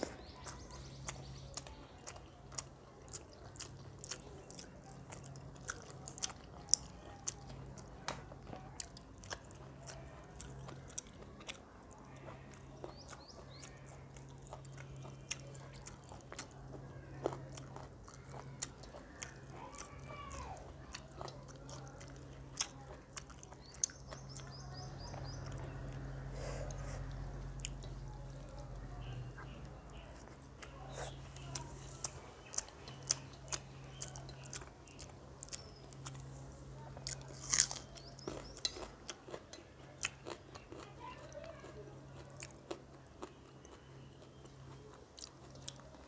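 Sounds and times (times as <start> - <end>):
chewing and wet mouth sounds: 0.0 - 46.0.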